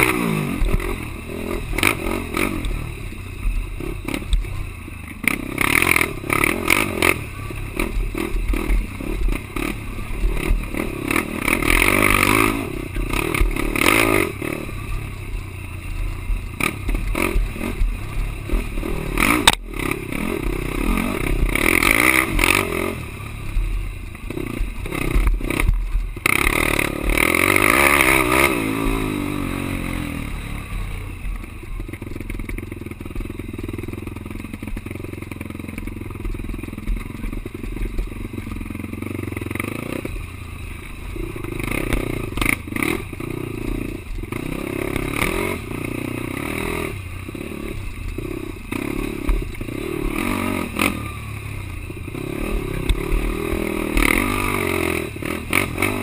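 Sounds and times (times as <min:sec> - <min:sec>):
quad engine revving: 0:00.0 - 0:03.1, 0:05.2 - 0:14.9, 0:16.6 - 0:23.4, 0:24.3 - 0:31.2, 0:36.2 - 0:56.0.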